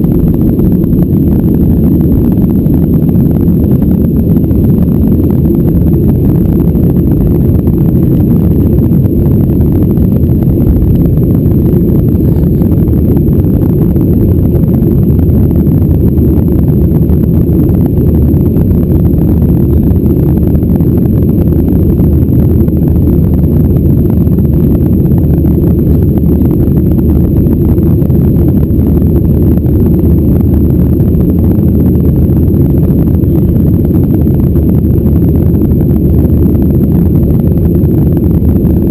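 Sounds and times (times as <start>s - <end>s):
airplane cabin engine roar: 0.0s - 38.9s.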